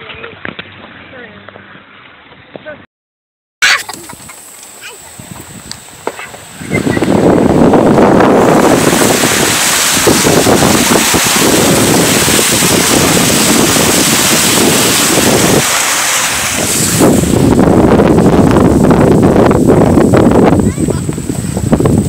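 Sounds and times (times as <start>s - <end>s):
water rushing and splashing: 3.7s - 22.0s
wind buffeting microphone: 3.8s - 22.0s.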